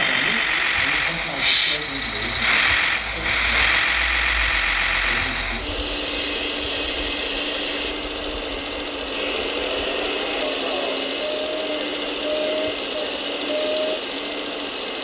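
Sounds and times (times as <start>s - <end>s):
loud mechanical noise: 0.0s - 15.0s
model excavator hydraulics whirring: 0.0s - 15.0s.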